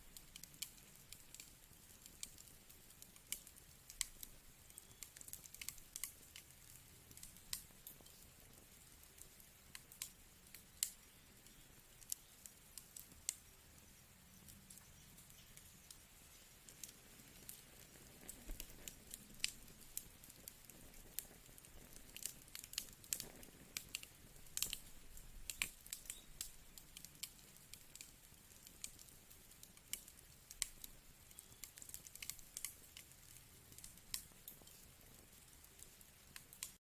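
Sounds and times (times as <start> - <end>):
faint steady hiss: 0.0 - 36.8
firewood crackling and popping: 0.0 - 36.8.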